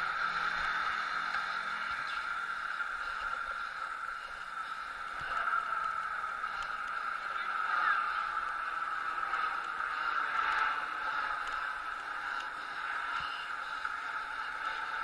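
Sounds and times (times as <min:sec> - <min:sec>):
tyres rolling on asphalt: 0:00.0 - 0:15.0.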